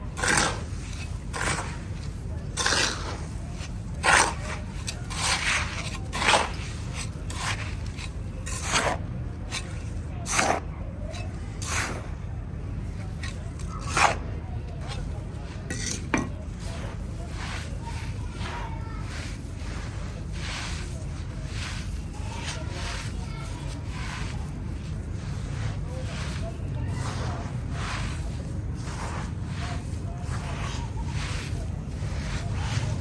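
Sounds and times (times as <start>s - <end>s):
tool scraping cement paste: 0.0s - 33.0s.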